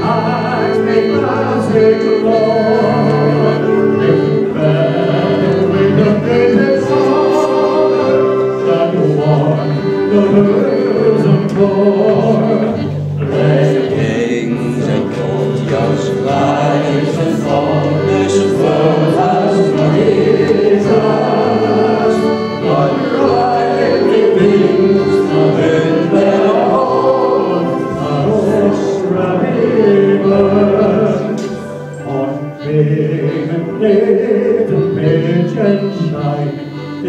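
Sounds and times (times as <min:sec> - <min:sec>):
instrumental accompaniment: 0:00.0 - 0:37.0
man singing into a microphone: 0:00.0 - 0:37.0.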